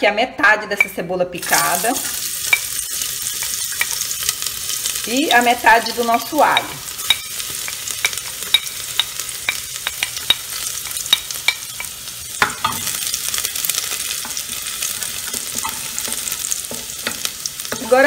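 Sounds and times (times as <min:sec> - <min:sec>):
onion sizzling in hot oil: 0:01.4 - 0:18.0.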